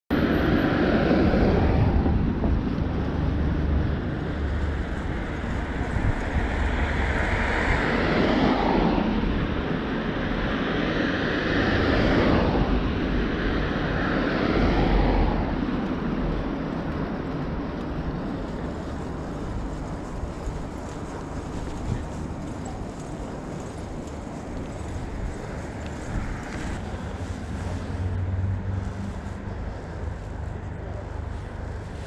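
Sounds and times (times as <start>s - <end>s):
oncoming cars passing: 0.1s - 32.0s
road rumble on wet road: 0.1s - 32.0s
wind rush: 0.1s - 32.0s.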